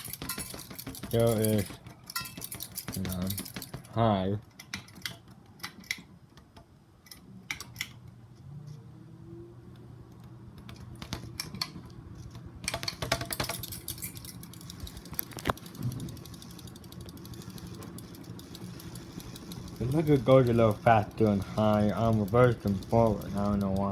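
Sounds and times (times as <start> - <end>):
ceiling fan motor hum: 0.0 - 23.9.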